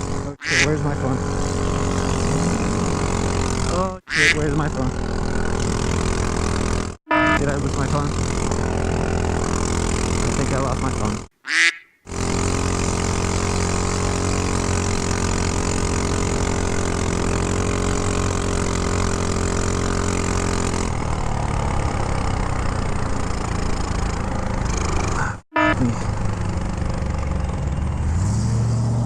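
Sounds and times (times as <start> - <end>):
scooter engine idling: 0.0 - 11.3, 12.1 - 28.2.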